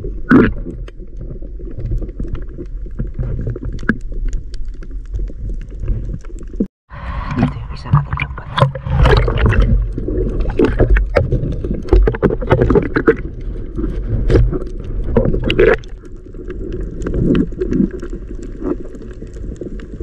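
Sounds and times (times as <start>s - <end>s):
underwater clicks and crackles: 0.0s - 6.7s, 8.0s - 20.0s
underwater rumble and sloshing: 0.0s - 20.0s.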